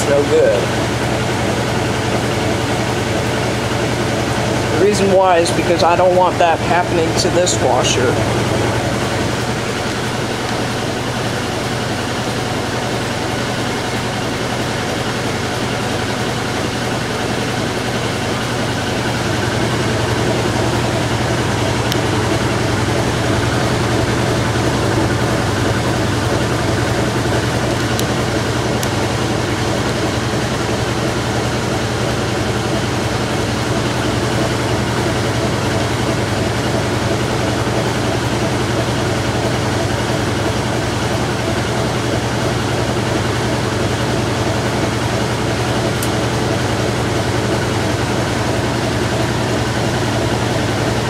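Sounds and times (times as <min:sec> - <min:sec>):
washing machine spinning hum: 0:00.0 - 0:51.0.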